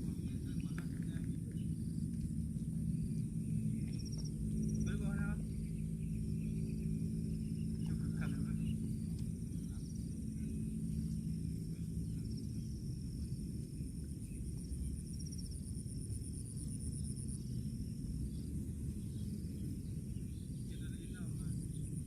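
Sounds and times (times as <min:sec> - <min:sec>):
low rumble: 0:00.0 - 0:22.0
low steady hum: 0:00.0 - 0:22.0
insect trilling: 0:01.5 - 0:20.7.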